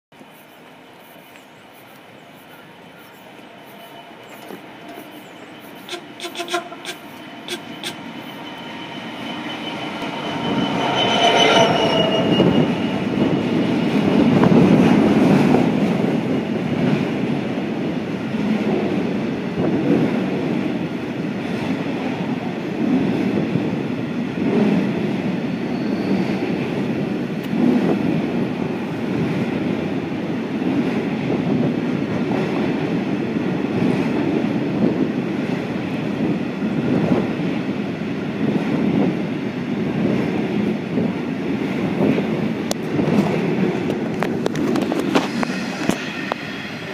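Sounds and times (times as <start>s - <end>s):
diesel locomotive passing: 0.2s - 46.9s.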